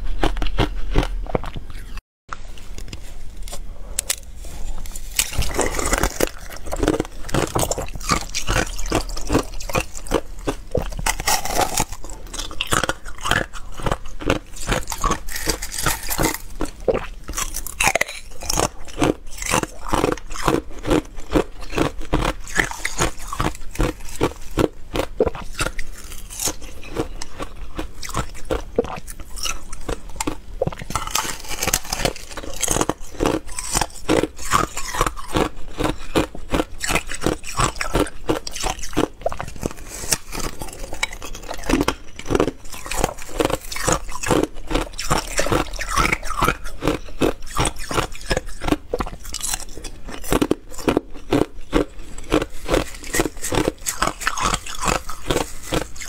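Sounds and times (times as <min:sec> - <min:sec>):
ice being bitten and crunched: 0:03.5 - 0:56.0.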